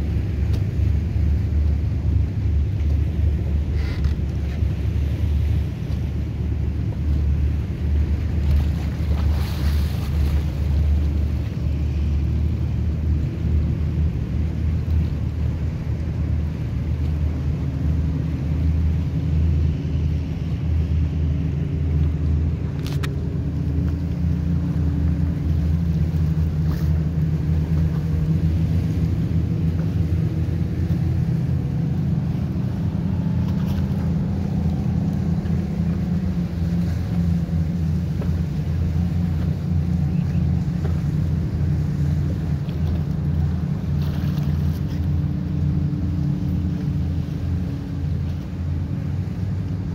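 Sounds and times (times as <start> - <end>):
motorboat engines drone: 0.0 - 49.9
nearer boat engine hum: 0.0 - 49.9
waves on water: 0.0 - 49.9.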